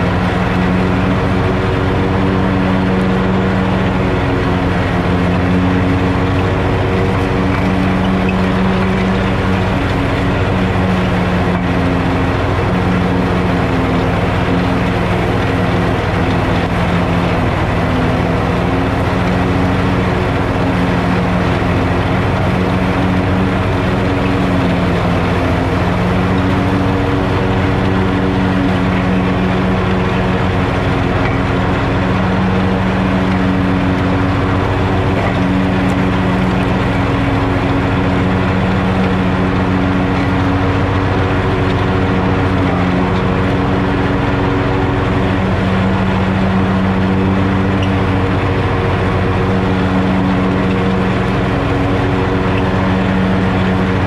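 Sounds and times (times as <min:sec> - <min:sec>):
mower blades cutting grass: 0:00.0 - 0:54.0
ride-on mower engine running: 0:00.0 - 0:54.0.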